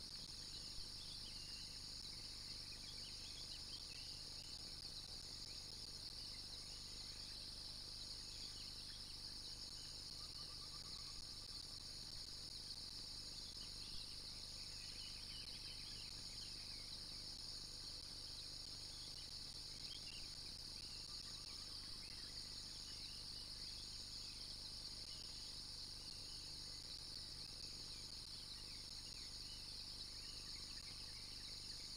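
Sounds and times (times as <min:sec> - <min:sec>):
insect chorus: 0:00.0 - 0:31.9.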